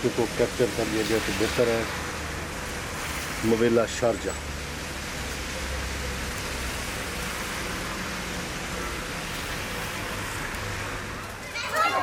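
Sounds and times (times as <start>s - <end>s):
rain falling steadily: 0.0s - 12.0s.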